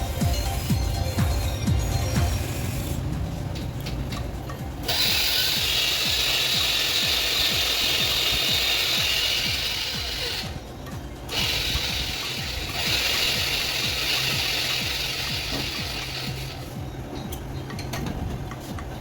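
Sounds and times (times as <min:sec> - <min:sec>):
grating machine noise: 0:00.0 - 0:17.8.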